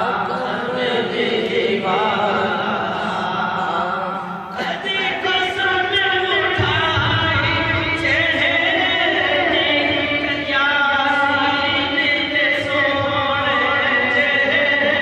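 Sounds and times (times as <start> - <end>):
men singing in chant-like style: 0.0 - 15.0.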